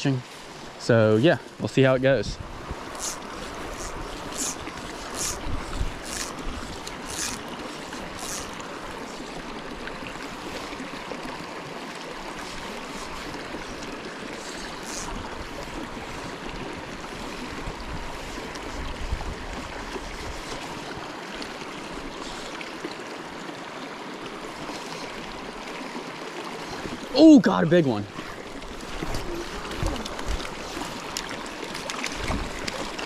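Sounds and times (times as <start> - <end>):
creek flowing over stones: 0.0 - 33.0.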